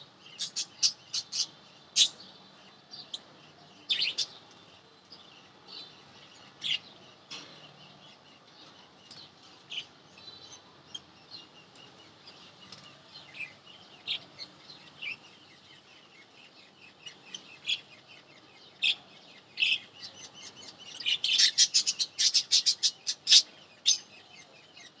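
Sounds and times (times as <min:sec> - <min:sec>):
lovebirds chirping: 0:00.0 - 0:25.0.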